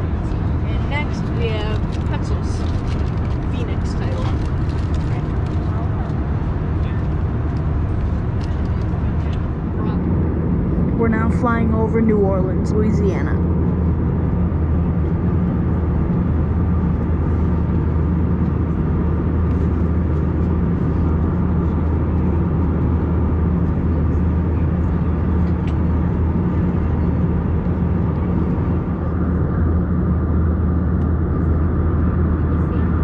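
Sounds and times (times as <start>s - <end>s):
airplane cabin engine drone: 0.0s - 33.0s.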